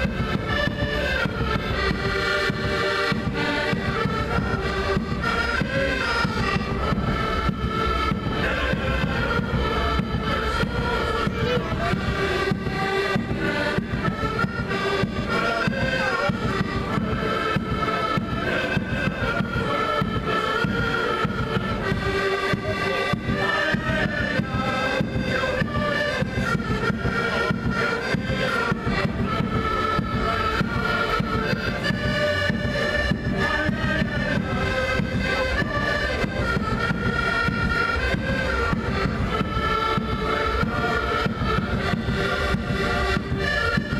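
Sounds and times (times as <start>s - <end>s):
accordion melody: 0.0s - 43.9s.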